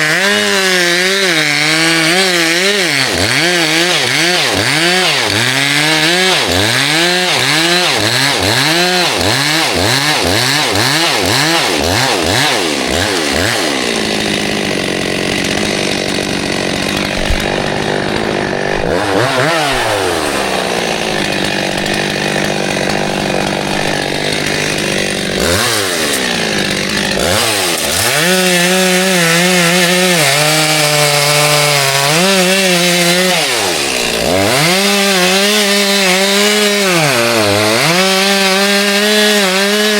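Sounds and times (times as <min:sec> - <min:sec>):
chainsaw cutting wood: 0:00.0 - 0:39.9
chainsaw revving: 0:00.0 - 0:39.9.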